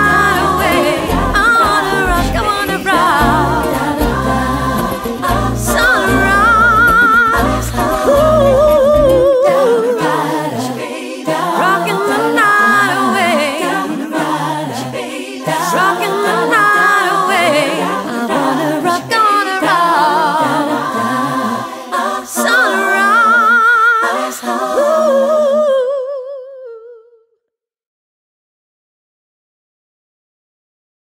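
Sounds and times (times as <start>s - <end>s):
vocal harmonies with vibrato: 0.0s - 27.4s.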